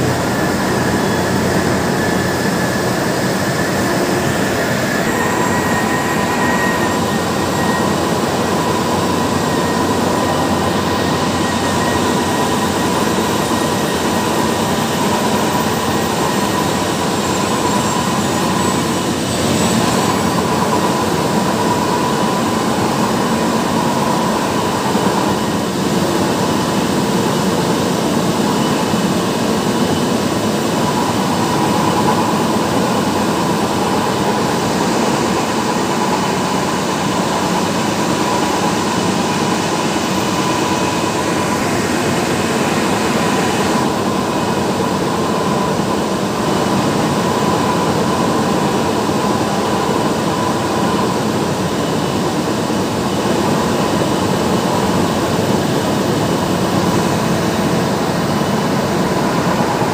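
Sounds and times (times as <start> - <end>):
faint steady whine: 0.0 - 59.9.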